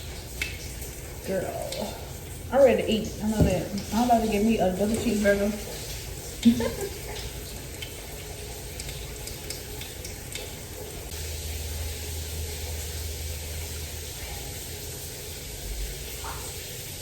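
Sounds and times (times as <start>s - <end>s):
shower water spraying: 0.0s - 17.0s.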